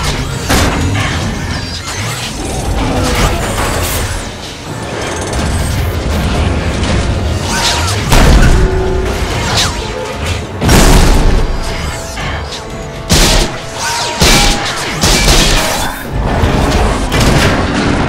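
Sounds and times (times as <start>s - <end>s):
orchestral action music: 0.0s - 18.0s.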